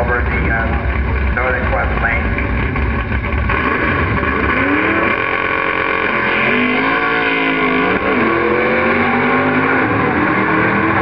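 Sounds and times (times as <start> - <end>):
cars accelerating hard: 0.0 - 11.0.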